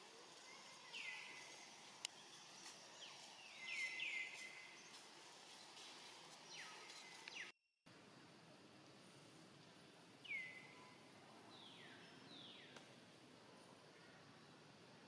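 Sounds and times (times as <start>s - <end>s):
faint woodland ambience: 0.0s - 15.0s.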